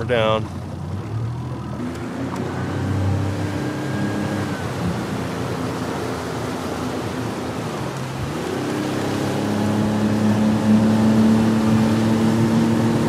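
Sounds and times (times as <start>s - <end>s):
outboard motor running: 0.0s - 13.0s
water rushing past hull: 0.0s - 13.0s.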